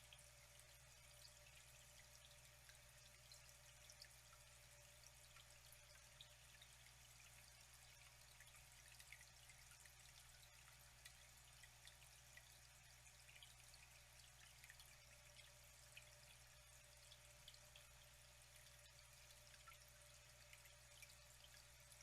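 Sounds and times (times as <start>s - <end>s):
faint trickling water: 0.0s - 22.0s.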